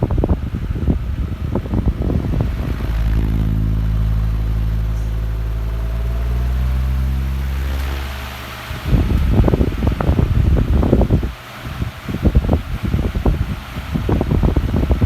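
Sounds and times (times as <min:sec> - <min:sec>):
fan airflow buffeting microphone: 0:00.0 - 0:15.0
fan motor hum: 0:00.0 - 0:15.0.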